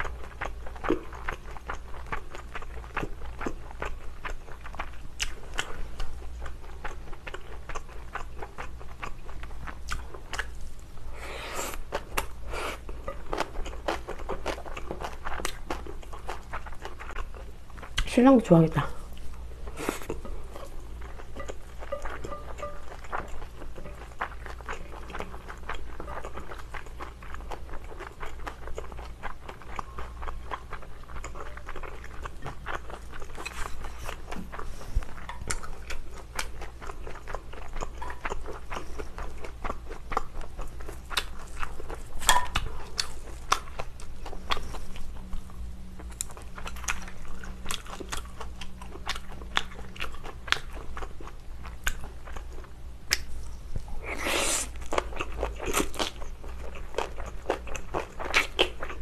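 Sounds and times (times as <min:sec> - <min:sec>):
chewing rice and noodles: 0:00.0 - 0:59.0.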